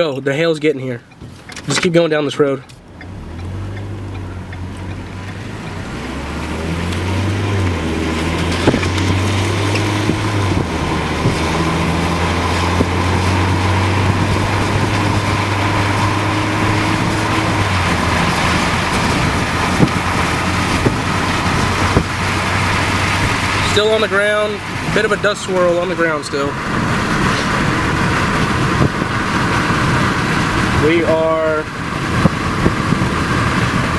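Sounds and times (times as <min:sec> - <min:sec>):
car engine hum: 0:00.0 - 0:33.9
road and wind noise: 0:00.0 - 0:33.9.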